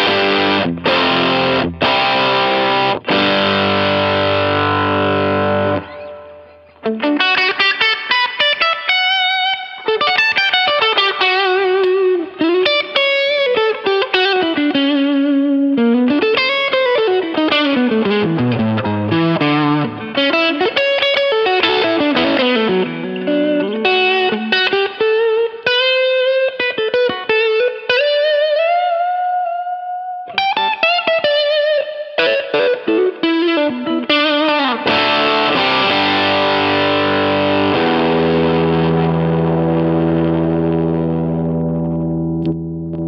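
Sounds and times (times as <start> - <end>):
overdriven electric guitar lead: 0.0 - 43.0.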